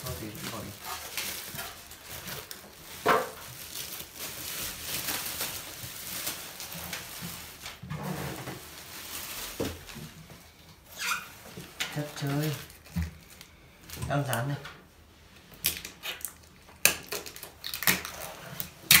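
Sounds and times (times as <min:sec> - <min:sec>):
plastic wrapping crinkling: 0:00.0 - 0:14.7, 0:15.5 - 0:19.0.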